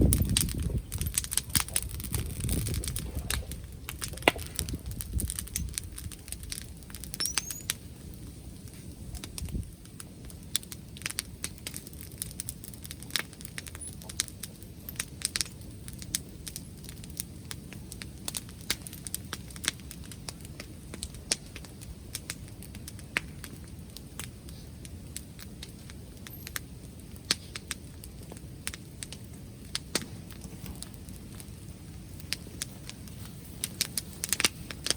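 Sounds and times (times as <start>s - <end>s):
wood bonfire crackling: 0.0s - 34.9s.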